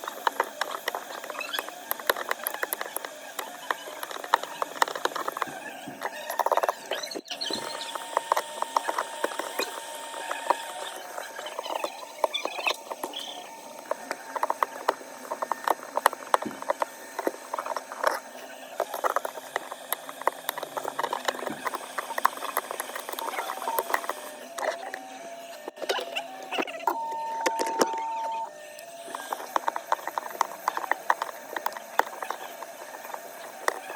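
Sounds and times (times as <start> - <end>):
hand tools clicking and tapping: 0.0 - 33.9.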